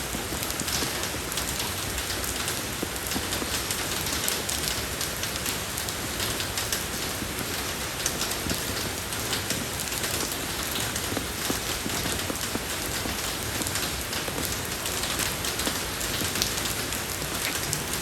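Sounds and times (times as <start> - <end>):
rain falling on a road: 0.0 - 18.0.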